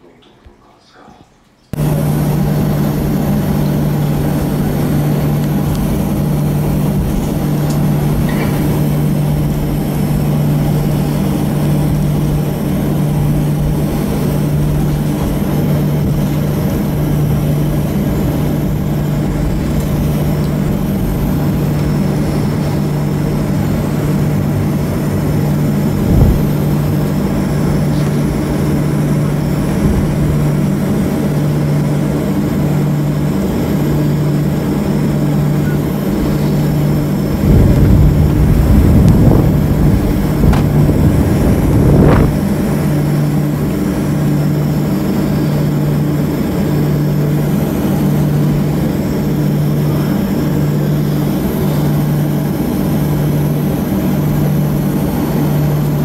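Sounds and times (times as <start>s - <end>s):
airplane cabin engine drone: 1.7s - 56.0s.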